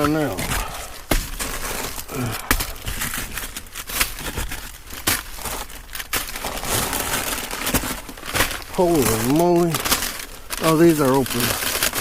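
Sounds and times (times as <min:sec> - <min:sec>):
plastic packaging crinkling: 0:00.0 - 0:12.0
sharp crackles and knocks: 0:00.0 - 0:12.0.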